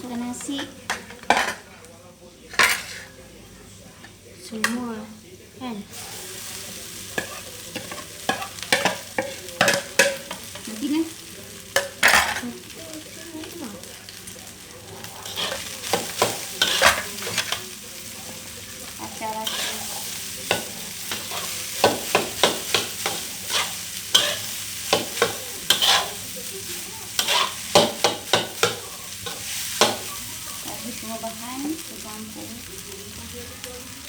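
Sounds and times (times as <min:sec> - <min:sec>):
rice sizzling in a hot pan: 0:00.0 - 0:34.0.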